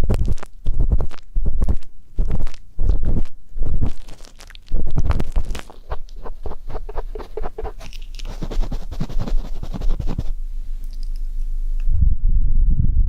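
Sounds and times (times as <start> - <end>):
ear pick scratching microphone: 0.0 - 11.3
dull low rubbing: 0.0 - 13.0.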